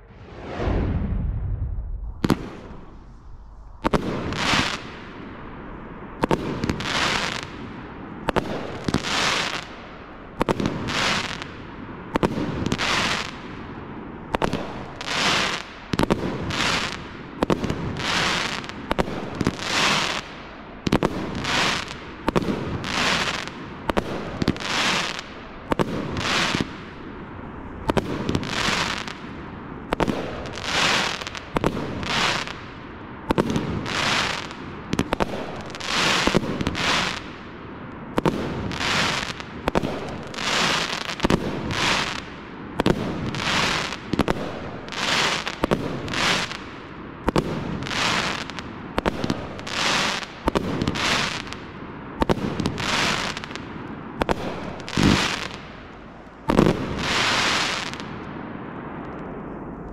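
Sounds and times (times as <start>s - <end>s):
firework bangs with crackling: 0.3s - 5.4s, 6.2s - 27.1s, 27.8s - 59.0s.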